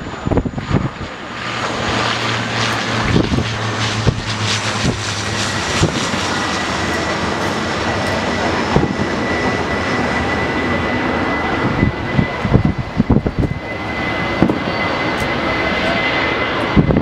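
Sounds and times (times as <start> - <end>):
jet engine rumble: 0.0 - 17.0
thin jet whine: 0.0 - 17.0.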